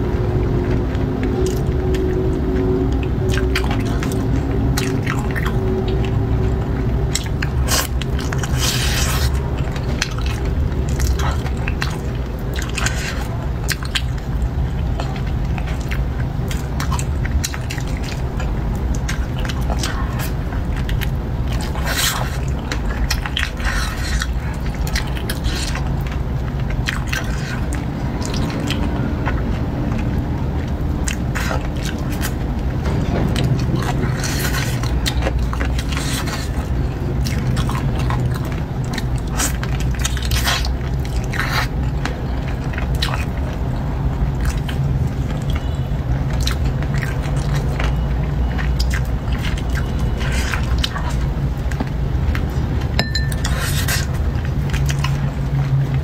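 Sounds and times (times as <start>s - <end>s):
steady low hum: 0.0s - 56.0s
wet chewing and crunching: 0.0s - 56.0s.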